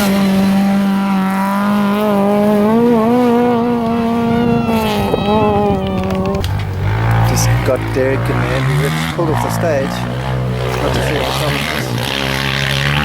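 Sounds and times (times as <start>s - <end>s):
quad engine at high revs: 0.0s - 13.0s.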